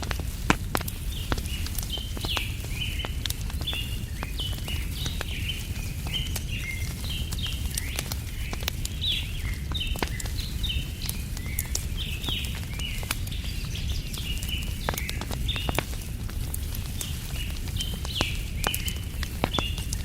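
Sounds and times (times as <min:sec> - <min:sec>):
fire low rumble: 0:00.0 - 0:20.0
sharp pops of fire: 0:00.0 - 0:20.0
wood fire crackling: 0:00.0 - 0:20.0.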